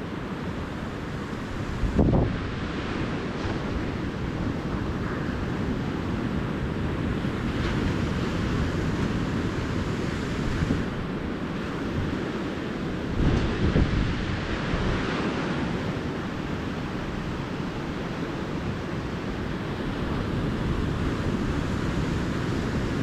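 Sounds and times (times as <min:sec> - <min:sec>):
ocean surf washing onto beach: 0:00.0 - 0:23.0
wind buffeting microphone: 0:00.0 - 0:23.0.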